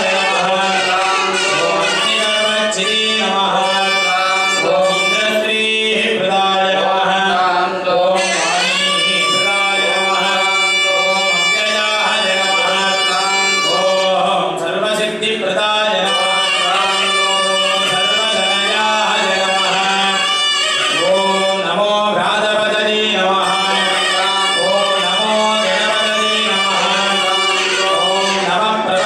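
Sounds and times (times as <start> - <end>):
devotional melody: 0.0 - 29.0.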